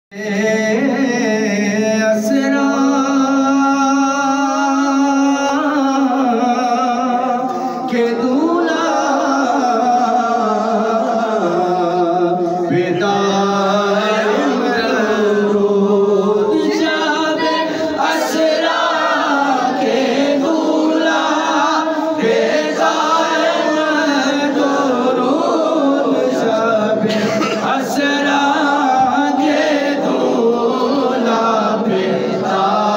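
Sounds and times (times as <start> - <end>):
voices singing devotional song: 0.2 - 32.9.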